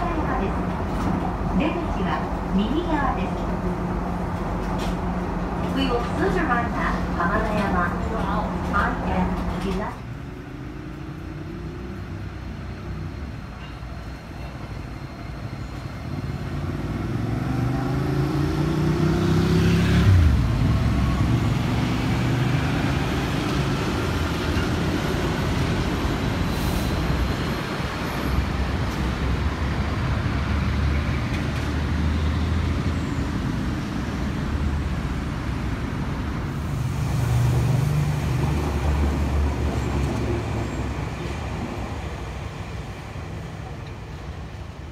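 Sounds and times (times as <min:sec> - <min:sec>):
wheels rumbling on rails: 0:00.0 - 0:44.9.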